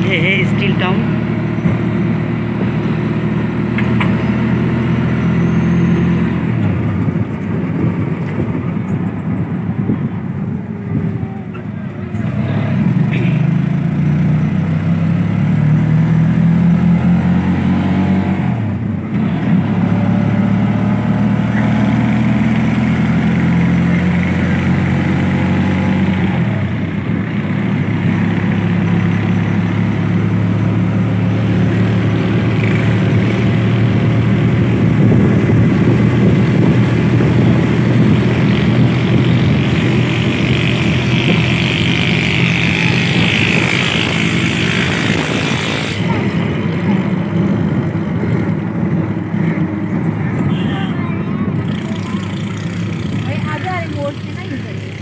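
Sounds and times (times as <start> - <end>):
auto-rickshaw engine running: 0.0 - 55.0.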